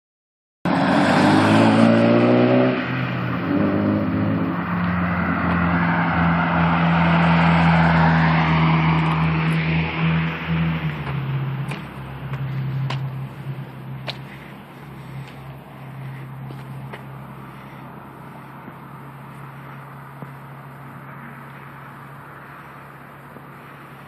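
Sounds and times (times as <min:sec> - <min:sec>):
car engine revving with loud exhaust: 0:00.7 - 0:24.0.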